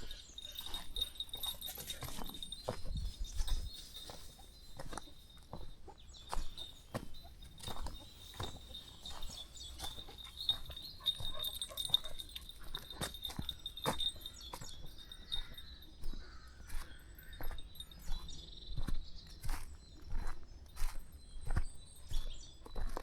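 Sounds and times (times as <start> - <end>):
footsteps on a path: 0.0 - 23.0.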